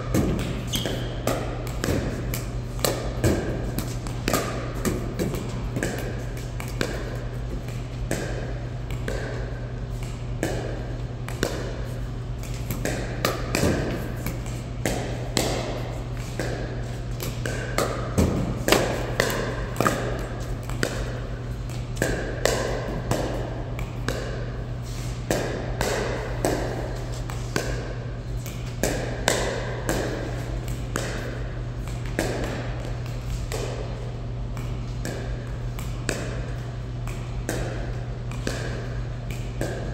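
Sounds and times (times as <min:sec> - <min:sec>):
steady low hum: 0:00.0 - 0:39.9
paddles hitting plastic ball: 0:00.1 - 0:39.9.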